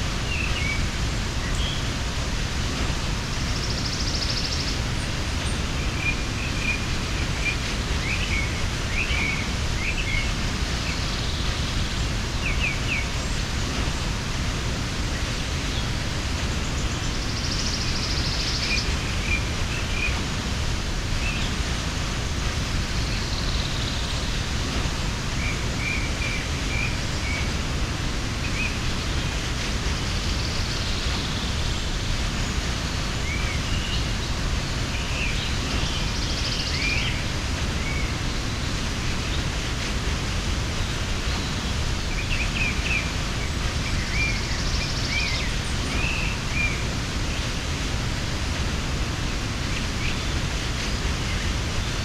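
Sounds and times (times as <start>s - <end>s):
waterfall rushing: 0.0s - 52.0s
small birds chirping: 0.1s - 52.0s.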